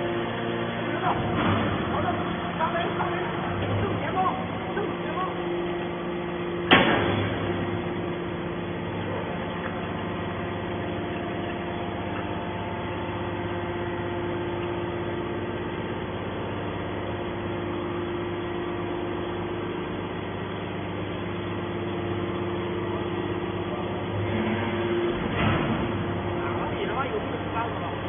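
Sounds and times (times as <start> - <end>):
hydraulic baler humming: 0.0 - 28.0.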